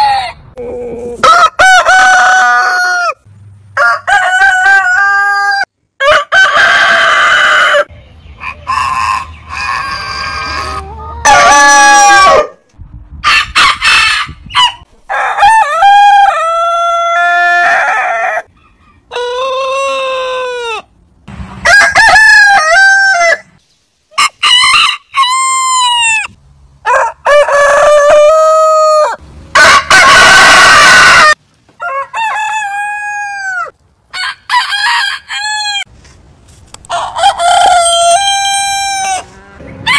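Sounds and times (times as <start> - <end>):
roosters crowing: 0.0 - 12.6, 13.3 - 20.9, 21.6 - 23.6, 24.2 - 35.9, 36.9 - 39.9.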